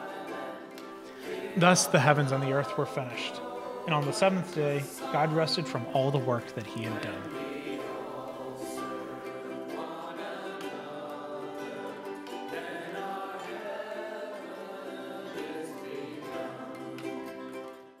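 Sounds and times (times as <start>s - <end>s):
people singing: 0.0s - 17.9s
ukulele ensemble playing: 0.0s - 18.0s.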